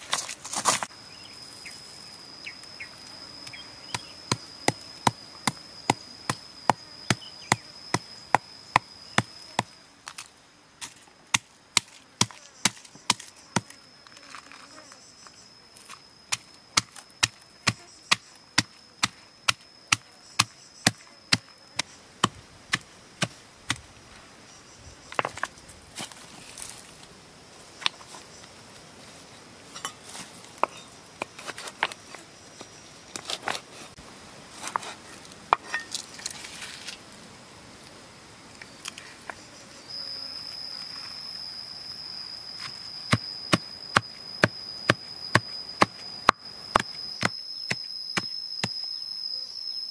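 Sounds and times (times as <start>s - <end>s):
insect trill: 0.0s - 49.9s.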